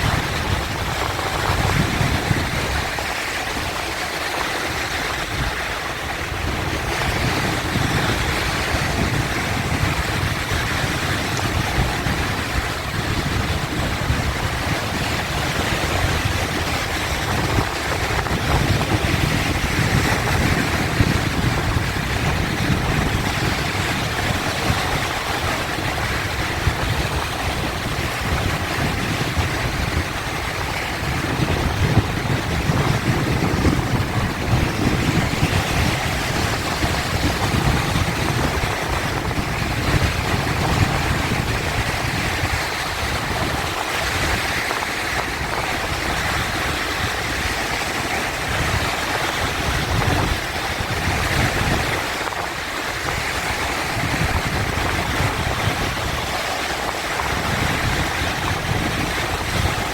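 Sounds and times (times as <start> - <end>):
sea waves surging: 0.0 - 59.9.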